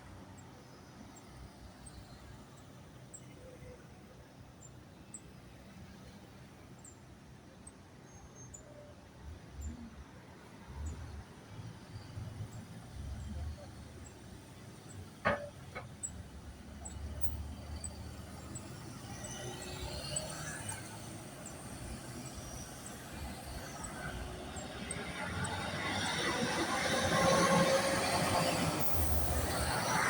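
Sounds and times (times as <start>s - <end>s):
street traffic: 0.0s - 30.0s.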